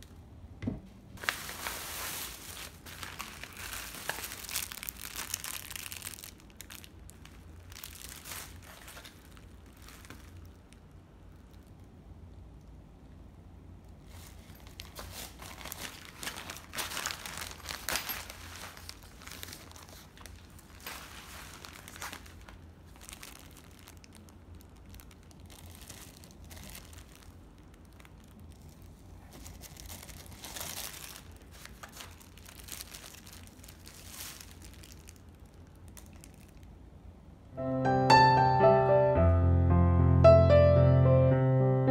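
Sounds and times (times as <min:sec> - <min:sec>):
plastic bags crinkling: 0:01.2 - 0:11.9, 0:14.0 - 0:37.1.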